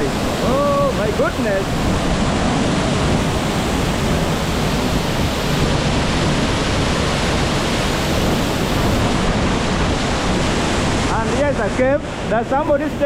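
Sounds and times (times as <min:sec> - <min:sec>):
waterfall roaring: 0:00.0 - 0:13.0
wind rumbling on microphone: 0:00.0 - 0:13.0.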